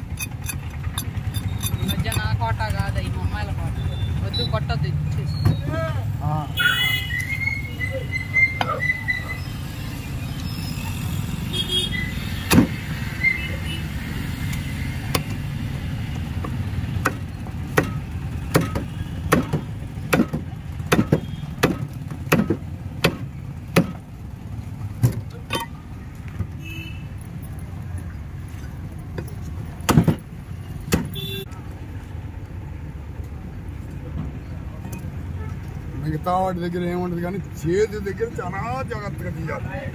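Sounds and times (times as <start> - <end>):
low rumble of street traffic: 0.0 - 39.9.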